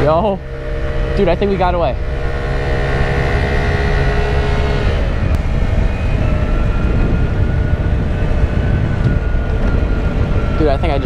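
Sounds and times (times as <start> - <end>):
motor scooter engine running: 0.0 - 11.0
road rumble: 0.0 - 11.0
wind noise: 0.0 - 11.0.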